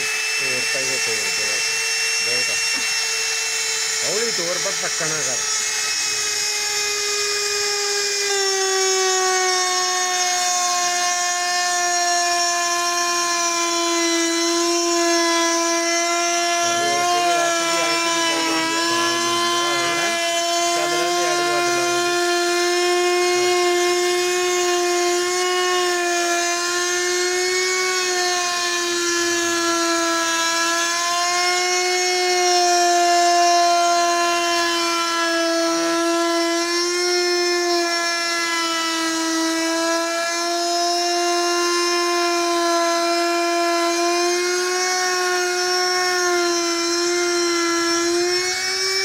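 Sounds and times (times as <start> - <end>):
router whining cutting wood: 0.0 - 49.0.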